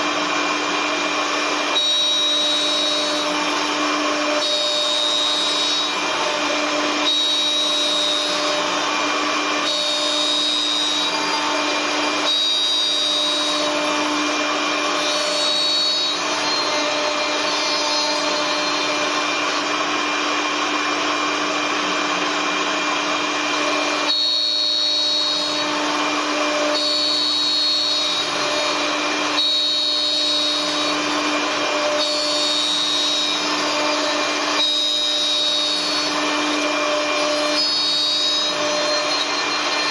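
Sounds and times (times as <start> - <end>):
lathe machine whine: 0.0 - 39.9.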